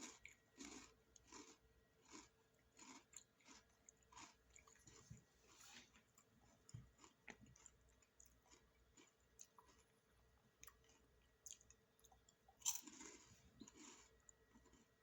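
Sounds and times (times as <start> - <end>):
chewing snack: 0.0 - 15.0.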